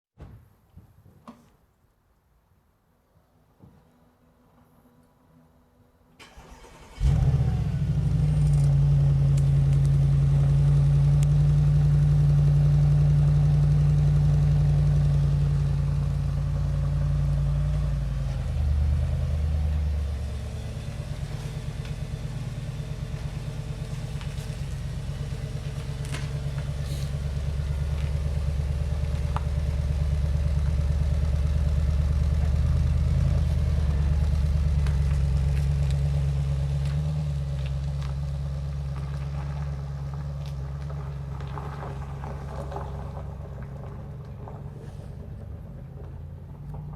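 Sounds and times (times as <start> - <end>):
car engine starting and idling: 6.2 - 46.9.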